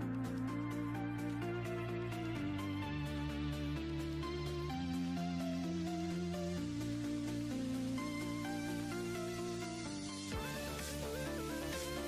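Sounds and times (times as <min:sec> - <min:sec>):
background music of sustained chords: 0:00.0 - 0:12.0.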